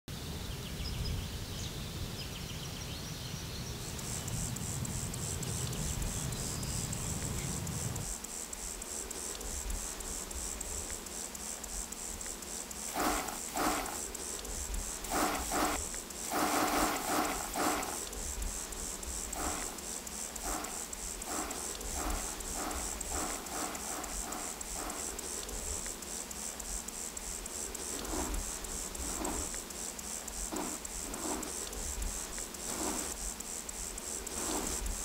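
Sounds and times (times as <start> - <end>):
insect chirring: 3.6 - 35.0.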